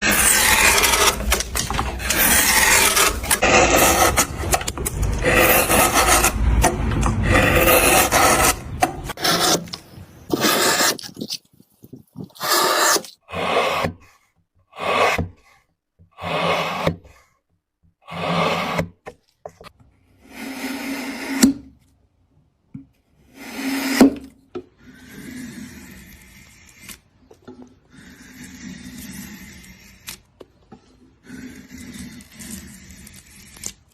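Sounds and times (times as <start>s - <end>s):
hand tool scraping wood: 0.0s - 17.3s, 18.1s - 21.5s, 23.3s - 33.9s.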